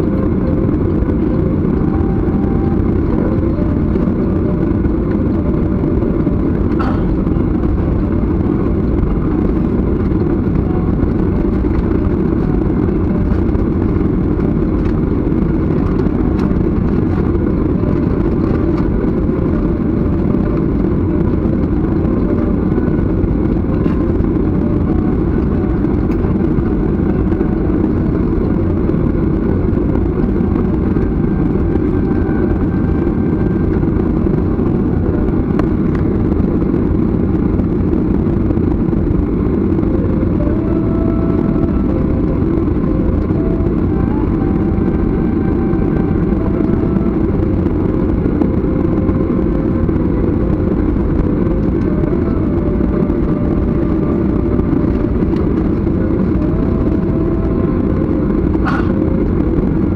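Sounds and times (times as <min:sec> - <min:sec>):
jet engines idling in cabin: 0:00.0 - 0:59.9.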